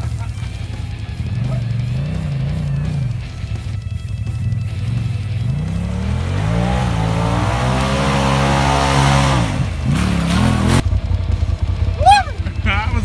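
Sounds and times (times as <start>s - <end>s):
tyres spinning in mud: 0.0s - 10.8s
utility vehicle engine revving: 0.0s - 13.0s.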